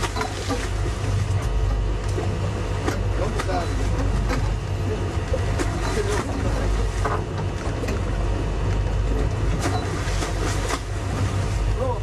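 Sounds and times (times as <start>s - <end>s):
boat engines droning: 0.0s - 12.0s
rush of water and air: 0.0s - 12.0s.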